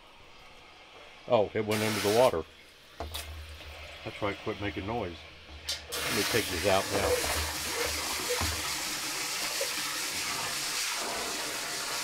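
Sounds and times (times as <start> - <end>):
water pouring into plastic barrel: 1.5 - 12.0.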